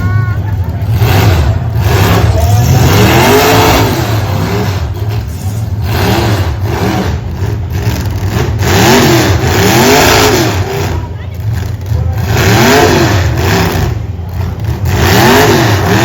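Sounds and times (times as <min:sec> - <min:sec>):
steady low engine rumble: 0:00.0 - 0:16.0
truck engines revving: 0:00.0 - 0:16.0.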